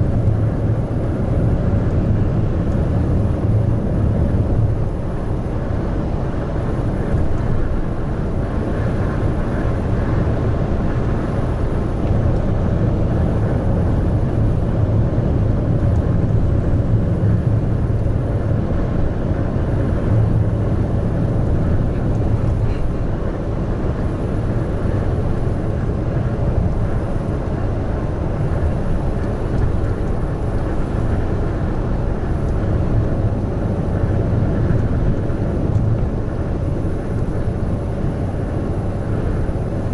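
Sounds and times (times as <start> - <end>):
truck engine drone: 0.0 - 39.9
tyre and road noise: 0.0 - 39.9.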